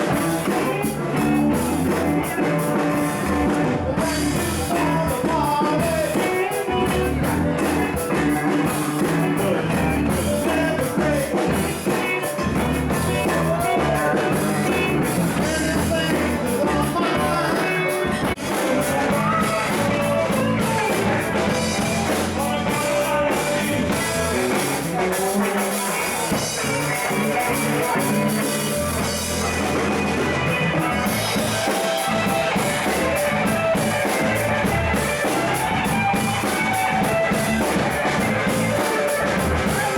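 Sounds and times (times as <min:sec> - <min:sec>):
bass guitar: 0:00.0 - 0:39.9
drum kit: 0:00.0 - 0:39.9
electric guitar: 0:00.0 - 0:39.9
person singing: 0:00.0 - 0:39.9.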